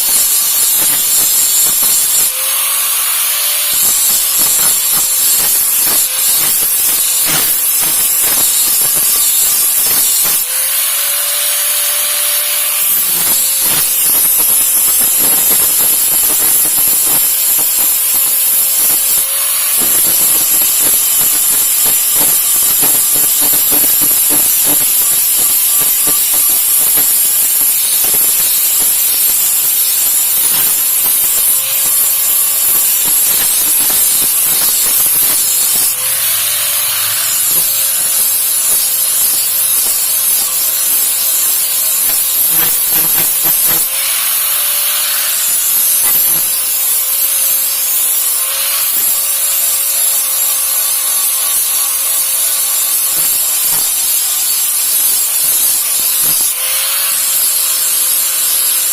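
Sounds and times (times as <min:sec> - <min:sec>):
grinding metal blade: 0:00.0 - 0:58.9.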